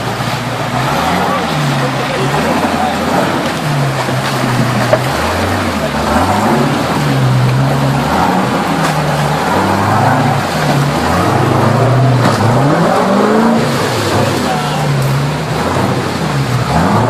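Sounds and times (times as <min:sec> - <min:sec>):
buggy engine revving: 0:00.0 - 0:17.0
creek water splashing: 0:00.0 - 0:17.0.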